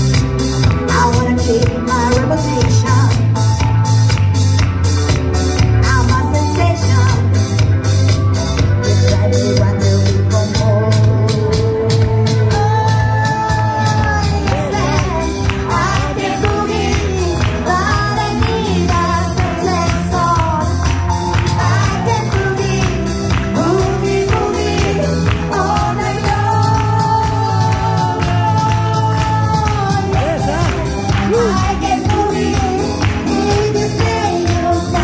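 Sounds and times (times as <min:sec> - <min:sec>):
pop backing track with beat: 0:00.0 - 0:35.0
woman singing: 0:00.6 - 0:03.4, 0:05.6 - 0:07.6, 0:08.8 - 0:35.0.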